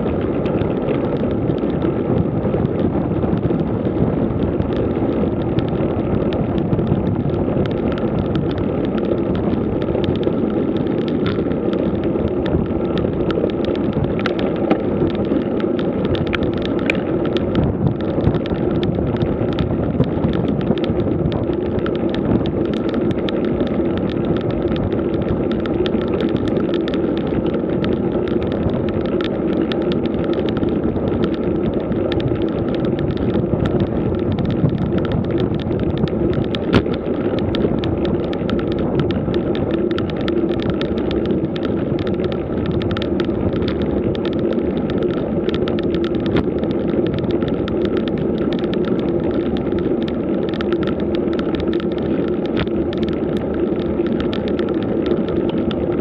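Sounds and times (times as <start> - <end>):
bike rattles and clicks: 0.0 - 56.0
bike tyres rumbling on asphalt: 0.0 - 56.0
wind on microphone: 0.0 - 56.0.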